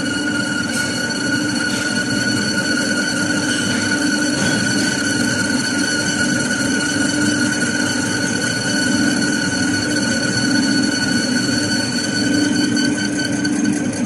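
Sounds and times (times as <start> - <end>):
high-pitched whining tones: 0.0 - 14.0
metal lathe droning: 0.0 - 14.0.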